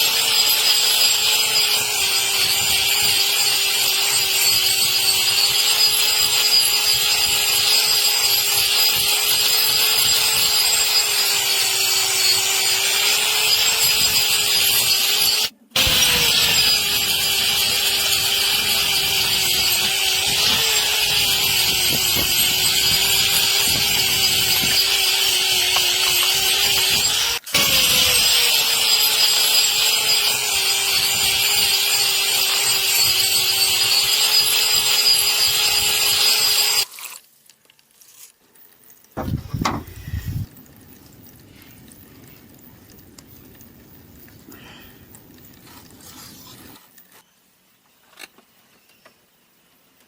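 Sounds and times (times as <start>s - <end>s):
power tool grinding hoof horn: 0.0s - 37.1s, 39.2s - 40.8s, 41.4s - 46.8s.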